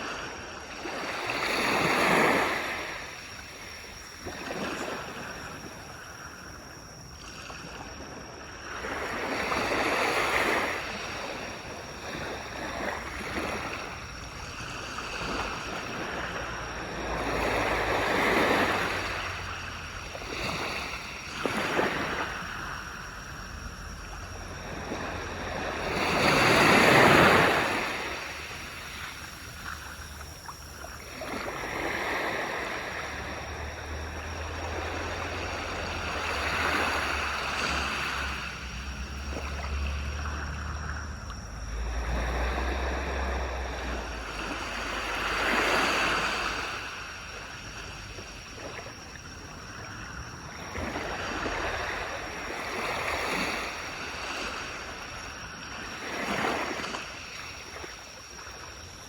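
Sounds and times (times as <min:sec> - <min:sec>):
ocean waves washing onto beach: 0:08.9 - 0:59.0.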